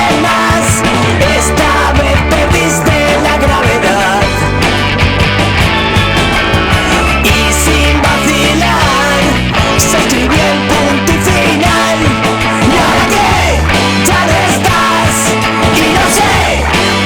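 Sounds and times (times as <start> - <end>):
loud rock song by a band: 0.0 - 17.0.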